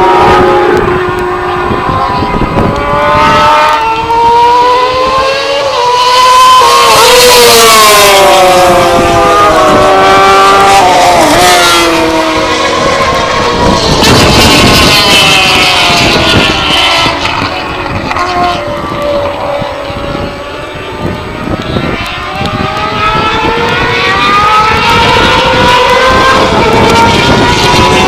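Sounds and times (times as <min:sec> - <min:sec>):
motorbike engines revving hard: 0:00.0 - 0:28.0.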